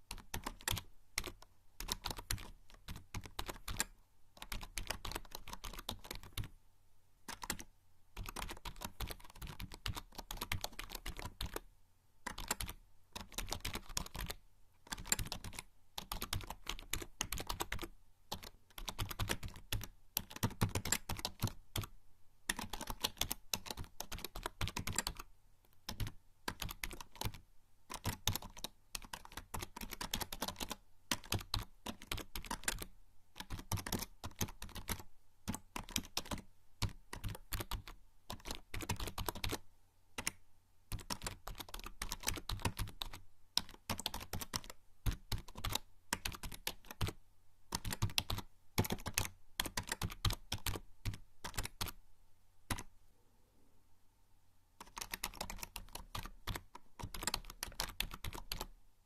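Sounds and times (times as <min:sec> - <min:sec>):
typing on computer keyboard: 0:00.1 - 0:06.5, 0:07.3 - 0:11.6, 0:12.3 - 0:21.9, 0:22.5 - 0:39.6, 0:40.2 - 0:52.0, 0:52.7 - 0:52.9, 0:54.8 - 0:58.7.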